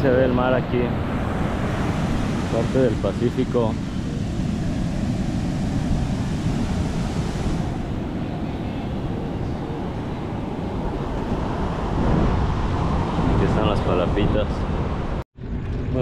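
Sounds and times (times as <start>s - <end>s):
surf breaking on a beach: 0.0s - 15.2s
wind rumbling on microphone: 0.0s - 16.0s.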